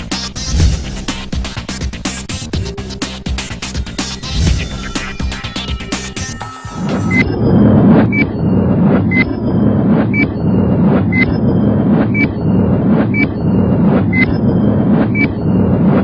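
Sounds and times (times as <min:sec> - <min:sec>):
loud low drone: 0:00.0 - 0:16.0.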